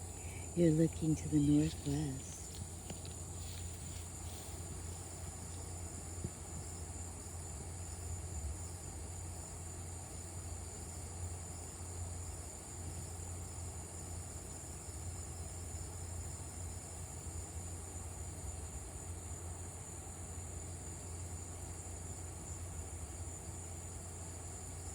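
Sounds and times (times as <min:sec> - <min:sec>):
crickets and cicadas trilling: 0:00.0 - 0:24.9
low steady hum: 0:00.0 - 0:24.9.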